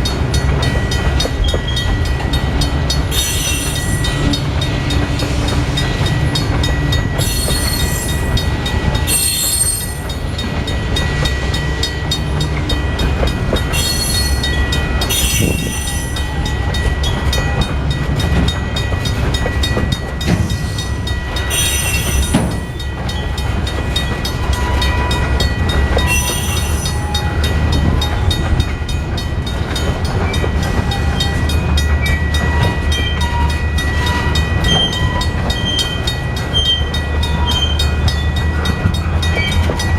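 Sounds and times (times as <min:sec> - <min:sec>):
freight train rumbling: 0:00.0 - 0:39.9
steady high tone: 0:00.0 - 0:39.9.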